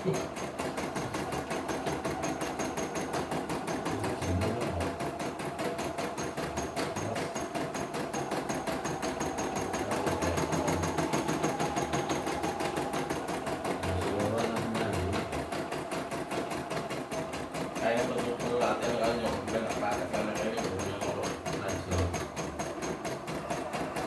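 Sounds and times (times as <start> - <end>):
embroidery machine stitching: 0.0 - 24.0.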